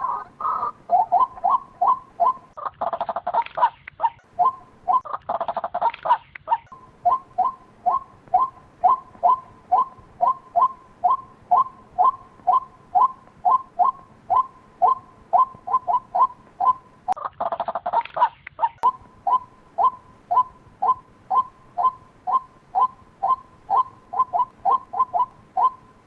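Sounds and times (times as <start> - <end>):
waterhen calling: 0.0 - 6.0, 6.7 - 17.2, 18.0 - 26.0.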